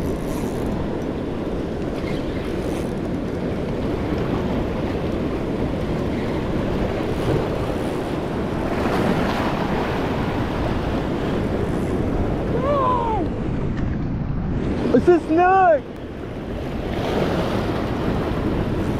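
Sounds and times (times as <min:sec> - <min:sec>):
surf waves breaking: 0:00.0 - 0:18.9
wind rumbling on microphone: 0:00.0 - 0:18.9.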